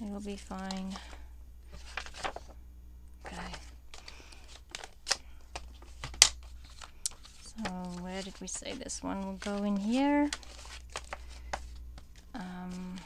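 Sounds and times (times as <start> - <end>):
soft paper rustling: 0.1 - 2.6, 3.2 - 13.0.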